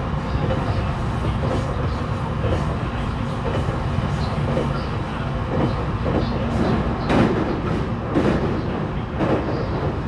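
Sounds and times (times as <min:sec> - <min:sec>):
train running gear rumble: 0:00.0 - 0:10.0
train wheels knocking: 0:00.4 - 0:10.0.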